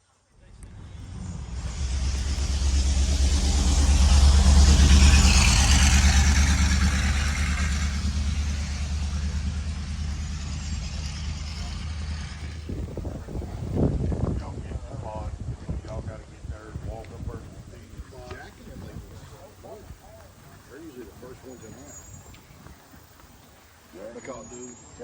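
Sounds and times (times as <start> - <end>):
vehicle engine rumbling: 0.2 - 24.5.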